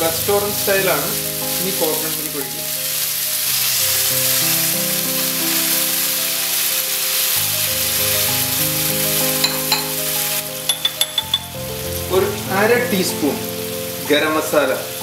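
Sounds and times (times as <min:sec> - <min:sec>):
curry sizzling in a pan: 0:00.0 - 0:15.0
slow background music: 0:00.0 - 0:15.0.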